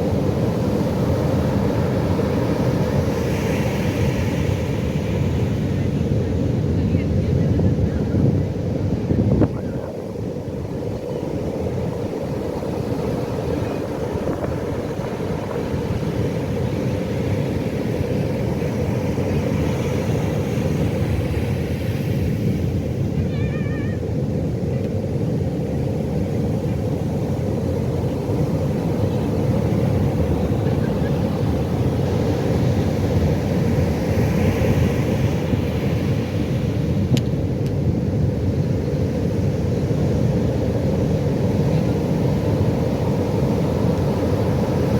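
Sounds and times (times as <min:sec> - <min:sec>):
ocean waves breaking: 0:00.0 - 0:44.9.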